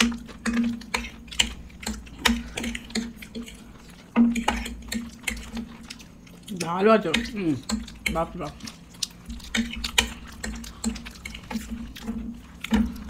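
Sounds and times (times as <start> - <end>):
dishes clicking and clinking: 0.0 - 13.0
low steady hum: 0.0 - 13.0.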